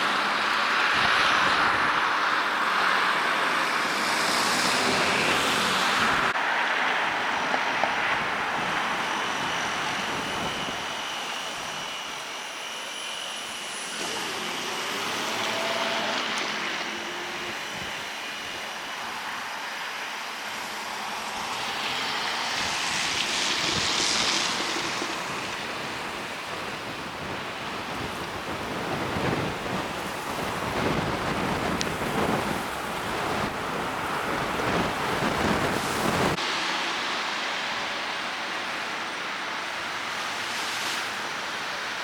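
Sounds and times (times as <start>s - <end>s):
road traffic hiss: 0.0s - 42.0s.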